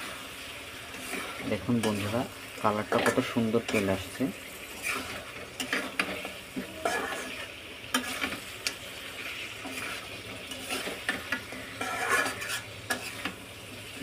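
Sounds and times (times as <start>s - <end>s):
meat sizzling in oil: 0.0s - 14.0s
spatula stirring and scraping: 0.0s - 14.0s.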